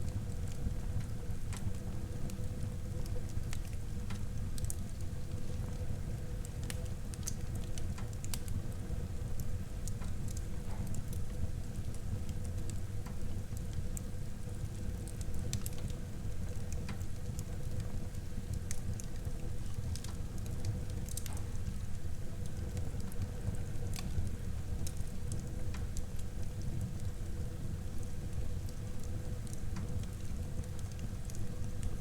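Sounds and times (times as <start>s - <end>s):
wood fire crackling and popping: 0.1s - 32.0s.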